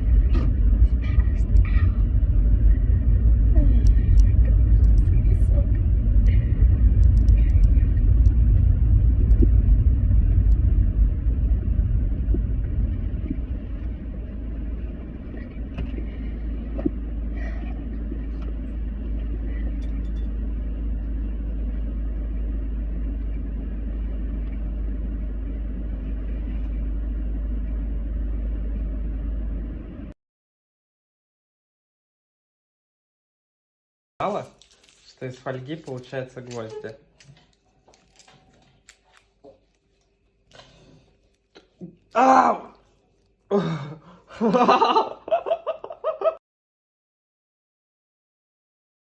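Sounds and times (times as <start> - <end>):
low steady rumble: 0.0 - 30.2, 34.2 - 46.4.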